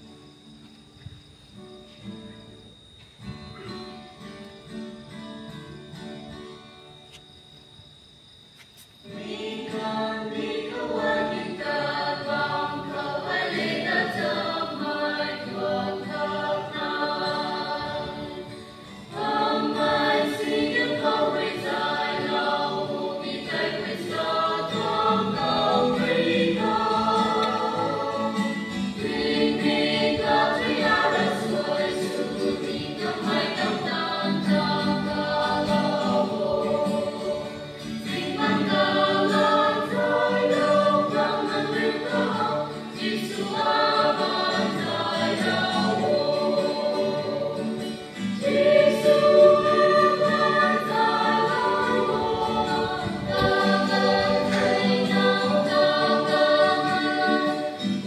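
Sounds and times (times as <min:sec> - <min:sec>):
acoustic guitar: 0:00.0 - 0:58.0
women's choir singing a hymn: 0:09.0 - 0:58.0.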